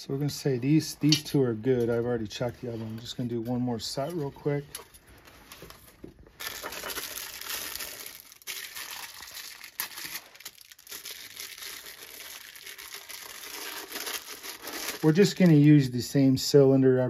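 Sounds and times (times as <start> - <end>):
rustling and crinkling handling noise: 0.2 - 15.9.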